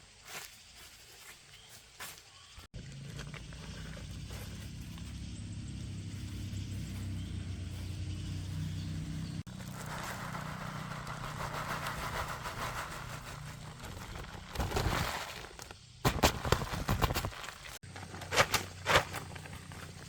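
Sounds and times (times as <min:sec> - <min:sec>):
engine humming: 0:02.7 - 0:20.0.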